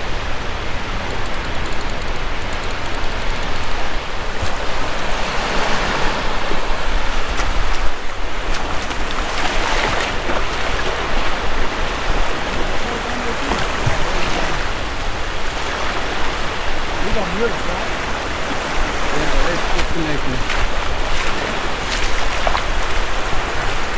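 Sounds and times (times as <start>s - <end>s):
surf washing over sandy beach: 0.0s - 23.9s
wind rumbling on microphone: 0.0s - 23.9s.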